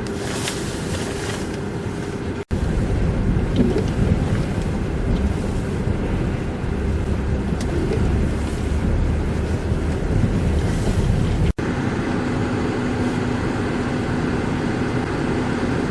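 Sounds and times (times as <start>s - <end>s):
low steady hum: 0.0s - 15.2s
blizzard wind gusting on microphone: 0.0s - 15.9s
steady rushing noise: 0.2s - 15.1s.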